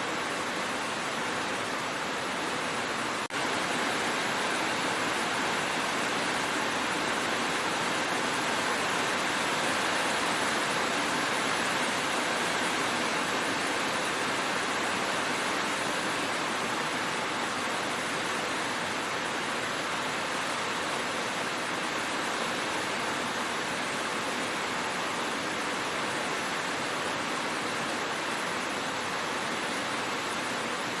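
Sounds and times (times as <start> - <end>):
heavy rain on a road: 0.0 - 31.0.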